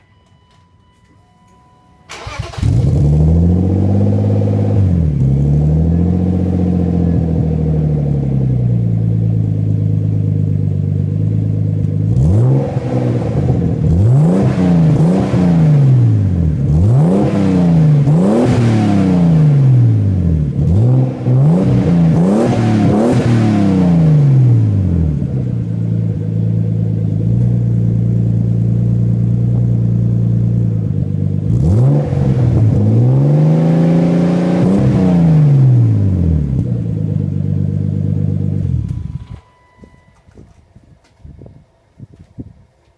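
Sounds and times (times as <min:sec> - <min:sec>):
car engine revving and idling: 0:02.1 - 0:39.3.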